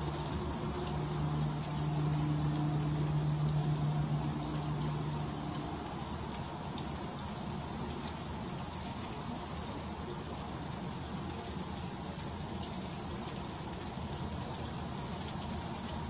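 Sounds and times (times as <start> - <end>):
freezing rain falling: 0.0 - 16.0
low steady hum: 0.0 - 16.0.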